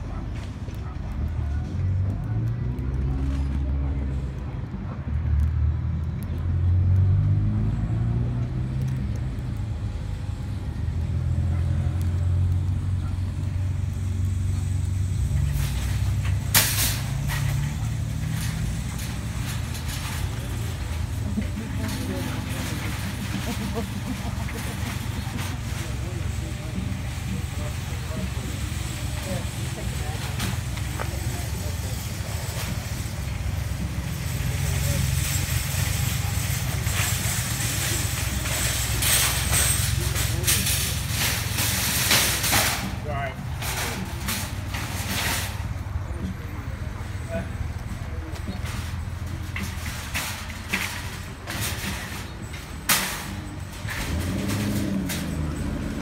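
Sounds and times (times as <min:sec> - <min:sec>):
faint distant voices: 0:00.0 - 0:56.0
low outdoor rumble: 0:00.0 - 0:56.0
vehicle engine humming: 0:00.0 - 0:56.0.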